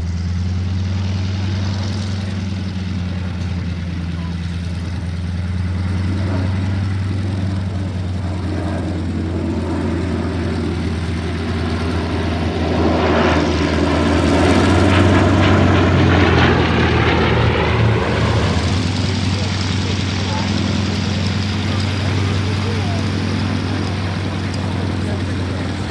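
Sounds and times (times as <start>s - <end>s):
aircraft engines droning: 0.0s - 25.9s.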